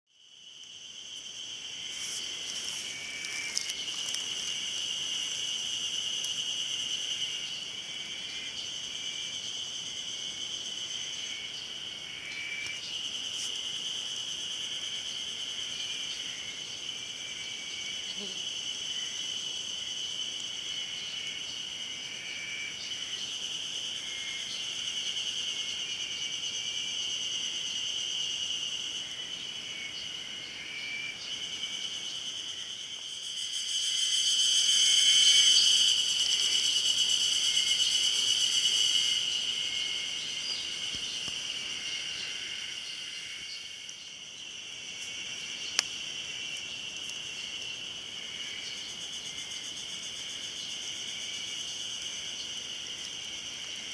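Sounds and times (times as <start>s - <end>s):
cicadas shrill pulsing drone: 0.2s - 53.9s.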